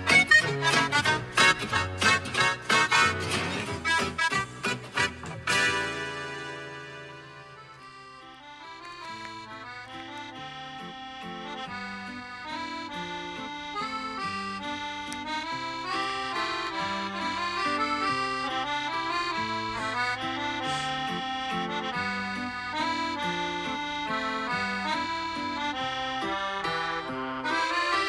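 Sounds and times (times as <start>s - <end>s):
accordion music: 0.0s - 28.0s.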